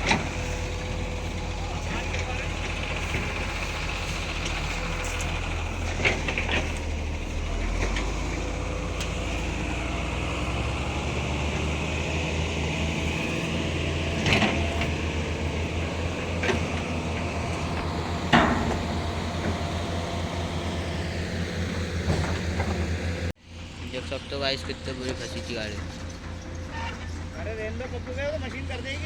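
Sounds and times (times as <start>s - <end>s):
diesel earthmoving machines droning: 0.0s - 29.0s.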